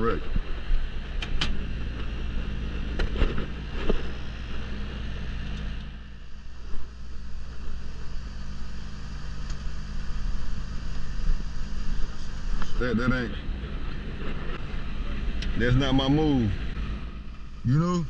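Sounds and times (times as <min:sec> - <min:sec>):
air conditioner unit running: 0:00.0 - 0:18.0.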